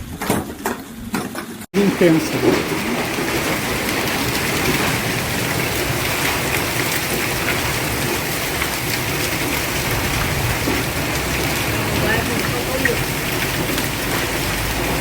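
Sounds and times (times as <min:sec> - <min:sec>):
hail and heavy rain pelting: 0:01.7 - 0:15.0.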